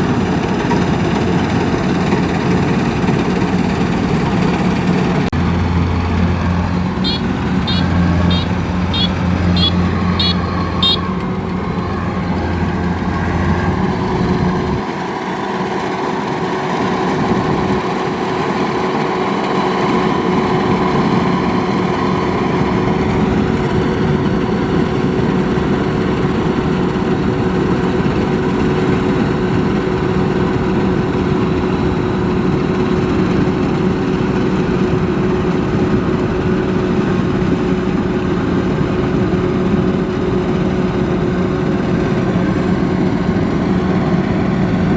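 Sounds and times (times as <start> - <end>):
diesel engine running: 0.0 - 44.9
engine whine: 0.0 - 44.9.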